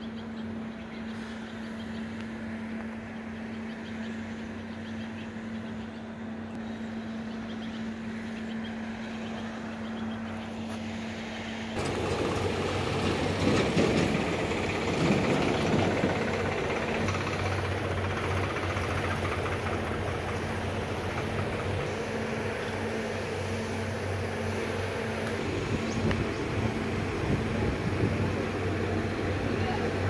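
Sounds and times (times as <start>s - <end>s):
engine running with rough rumble: 0.0s - 30.0s.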